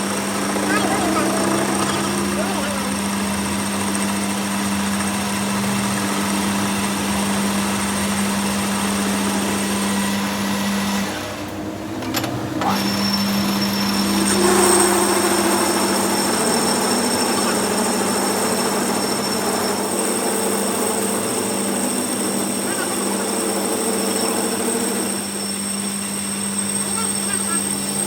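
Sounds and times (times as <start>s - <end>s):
workshop machinery hum: 0.0s - 28.0s.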